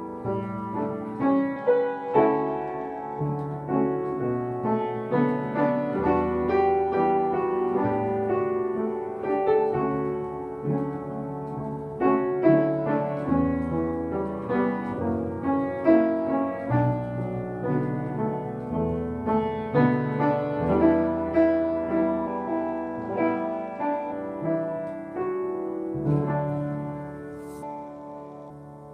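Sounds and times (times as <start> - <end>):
slow gentle piano melody: 0.0 - 28.9.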